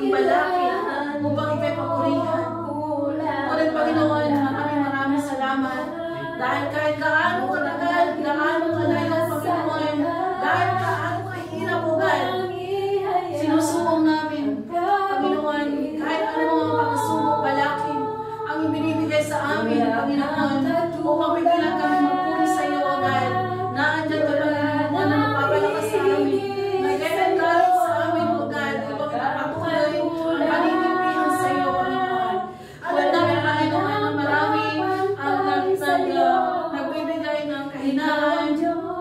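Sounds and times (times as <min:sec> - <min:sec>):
strummed acoustic guitar: 0:00.0 - 0:39.0
women singing together: 0:00.0 - 0:39.0.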